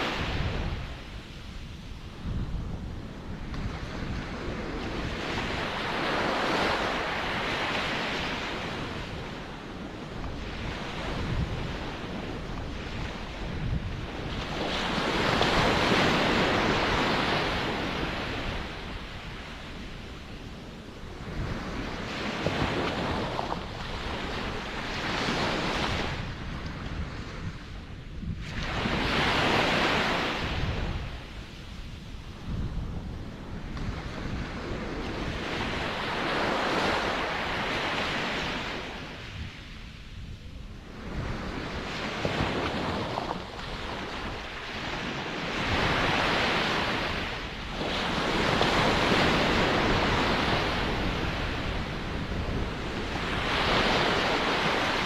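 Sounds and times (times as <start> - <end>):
ocean waves washing in: 0.0 - 55.0.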